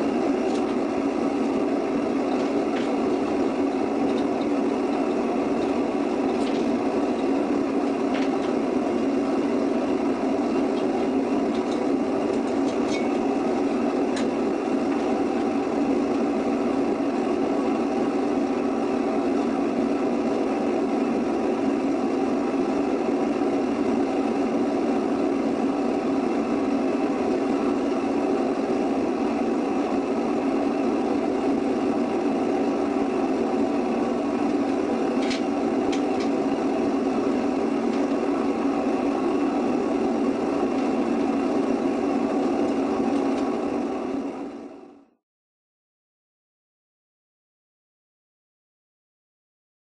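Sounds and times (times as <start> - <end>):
furnace drone: 0.0 - 45.2.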